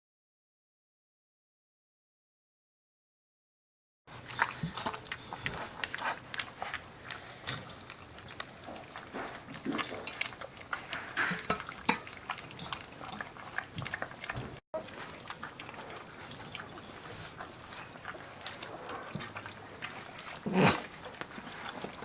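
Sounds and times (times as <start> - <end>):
puppies lapping and slurping: 4.1 - 22.0.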